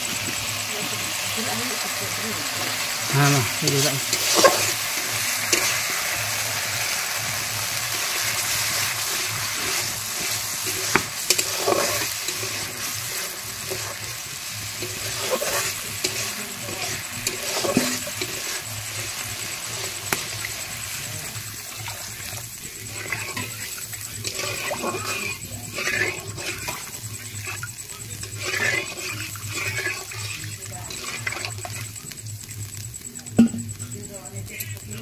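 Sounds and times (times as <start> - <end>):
paste sizzling in hot oil: 0.0 - 35.0
metal spoon scraping pan: 2.6 - 32.1.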